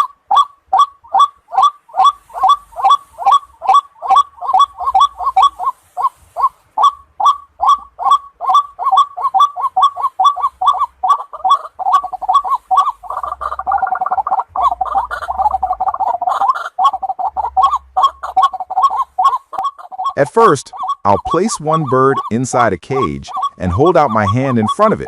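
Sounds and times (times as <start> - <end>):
waterhen harsh calls: 0.0 - 25.0.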